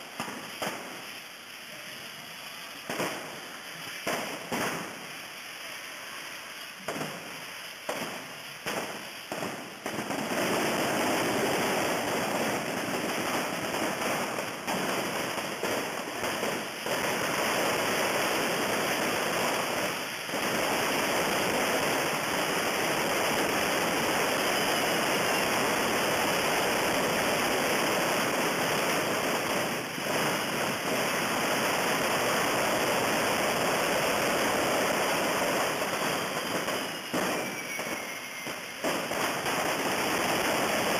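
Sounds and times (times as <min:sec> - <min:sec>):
fireworks bangs: 0:00.0 - 0:40.9
fireworks rockets hissing: 0:00.0 - 0:40.9.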